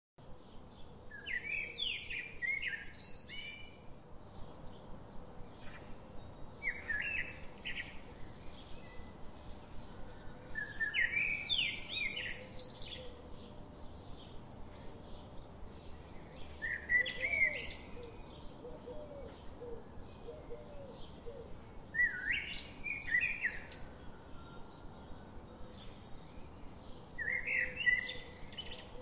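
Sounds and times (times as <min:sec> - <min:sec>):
birds chirping and singing: 0:00.2 - 0:29.0.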